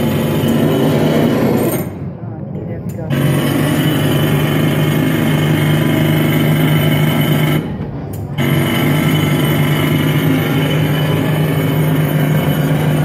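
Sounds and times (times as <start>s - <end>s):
pneumatic rock drill over speakers: 0.0s - 2.2s, 3.0s - 13.0s.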